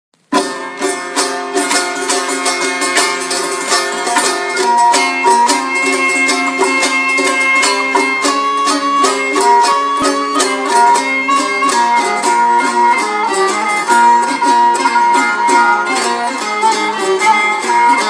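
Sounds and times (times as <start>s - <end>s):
lutes strummed fast: 0.2s - 18.0s
bowed string melody: 0.3s - 18.0s.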